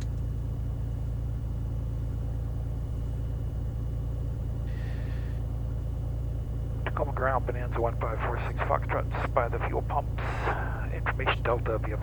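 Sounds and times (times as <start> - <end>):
propeller plane engine idling: 0.0 - 12.0.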